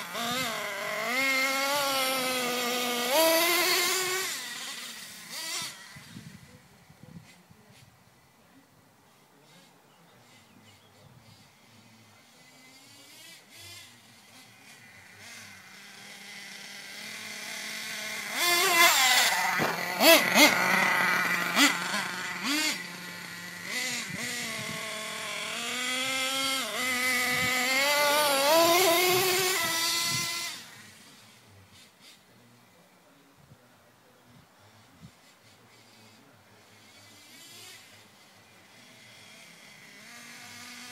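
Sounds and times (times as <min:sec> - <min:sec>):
high-revving nitro engine: 0:00.0 - 0:07.9, 0:09.2 - 0:33.1, 0:34.2 - 0:40.9.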